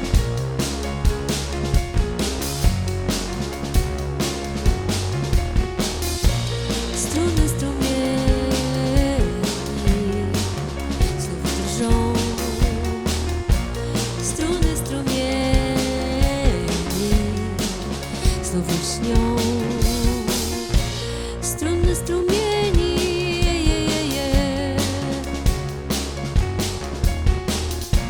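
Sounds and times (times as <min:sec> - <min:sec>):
bass: 0:00.0 - 0:28.0
drum kit beat: 0:00.0 - 0:28.0.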